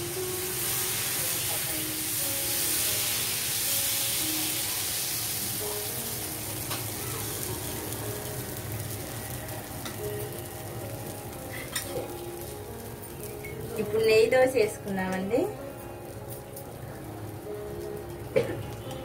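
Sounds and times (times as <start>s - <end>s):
batter sizzling on hot iron: 0.0s - 19.0s.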